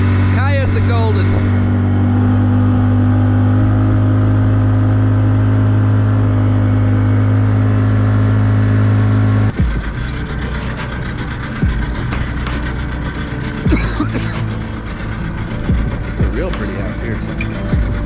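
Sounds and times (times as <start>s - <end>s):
outboard motor humming: 0.0s - 18.0s.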